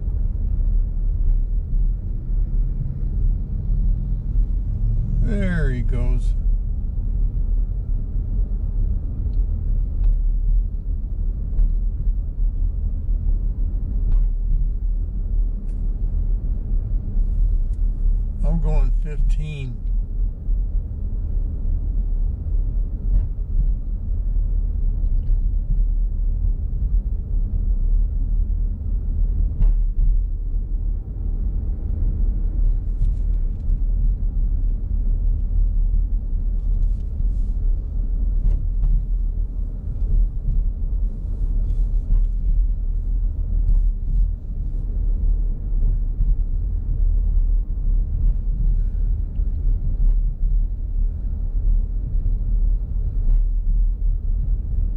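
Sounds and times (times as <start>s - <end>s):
car driving rumble from cabin: 0.0s - 54.9s.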